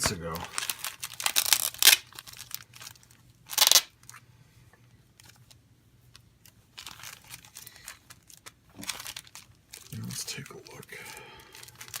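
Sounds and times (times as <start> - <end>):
packaging crinkling and rustling: 0.0 - 4.2, 5.2 - 12.0.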